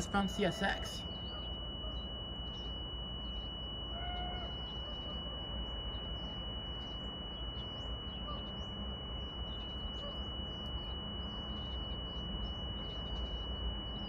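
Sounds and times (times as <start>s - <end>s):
faint bird chirps: 0.0s - 14.0s
steady high-pitched tone: 0.0s - 14.0s.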